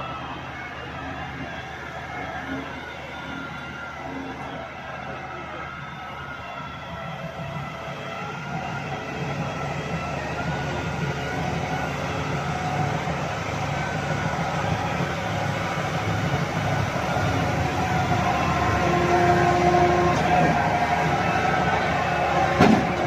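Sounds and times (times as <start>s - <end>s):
concrete pump drone: 0.0s - 23.0s.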